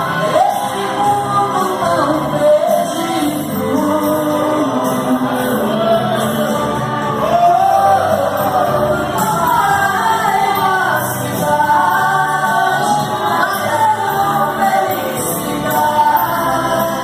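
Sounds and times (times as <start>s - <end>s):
gospel song: 0.0s - 17.0s.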